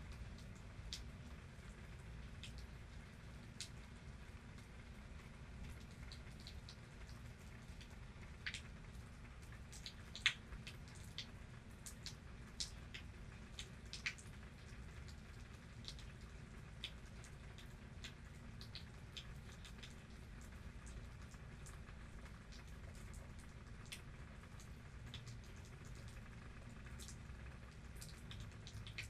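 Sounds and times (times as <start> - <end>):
faint low rumble: 0.0 - 29.0
raindrops dripping: 0.0 - 29.0.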